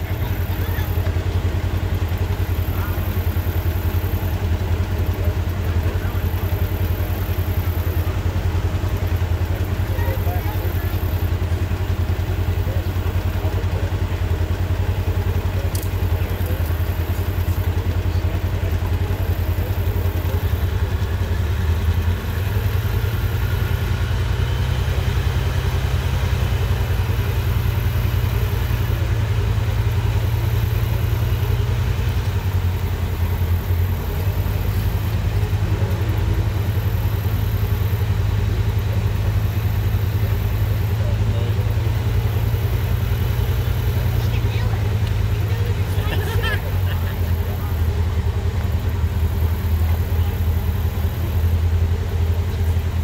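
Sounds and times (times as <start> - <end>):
vehicle engine running at low revs: 0.0 - 53.0.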